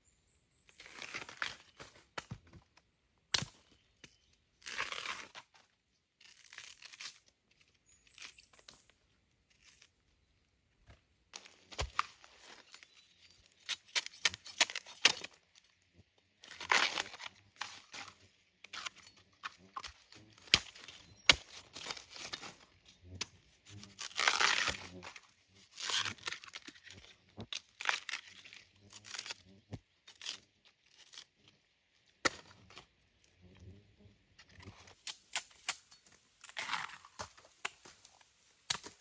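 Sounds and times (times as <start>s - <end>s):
husks tearing and crackling: 4.6s - 8.9s, 11.4s - 39.0s.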